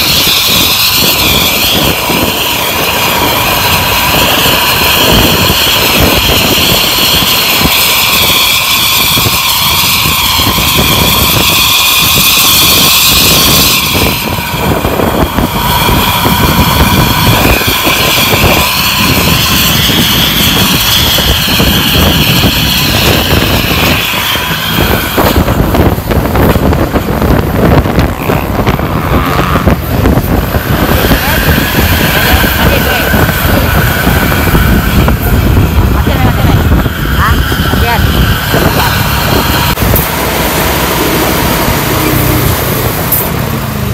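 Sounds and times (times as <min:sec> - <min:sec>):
engine rough rumble: 0:00.0 - 0:43.9
loud jet-like exhaust howl: 0:00.0 - 0:43.9.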